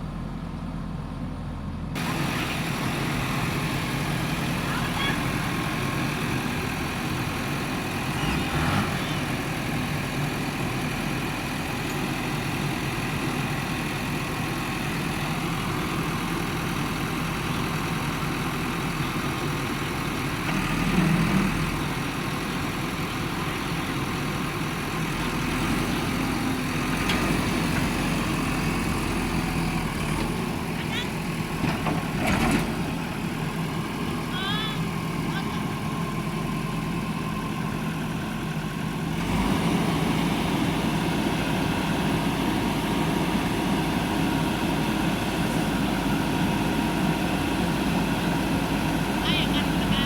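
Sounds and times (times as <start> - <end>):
heavy diesel engine idling: 0.0 - 50.0.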